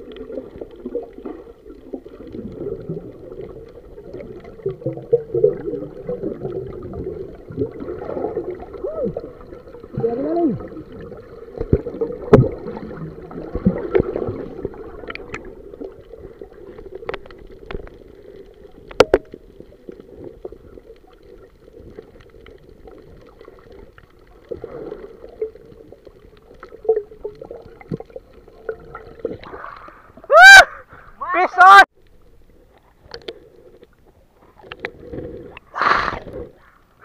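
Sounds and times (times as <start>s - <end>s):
bubbling: 0.0s - 30.3s.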